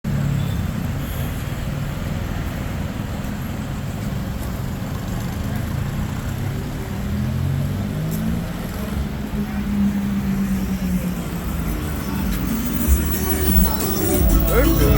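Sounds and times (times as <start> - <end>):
road traffic noise: 0.0 - 14.9
vehicle engine: 0.1 - 14.9.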